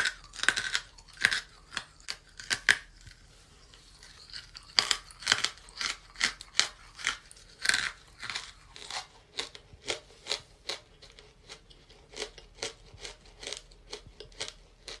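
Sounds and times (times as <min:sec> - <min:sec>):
chewing chalk crunches: 0:00.0 - 0:15.0.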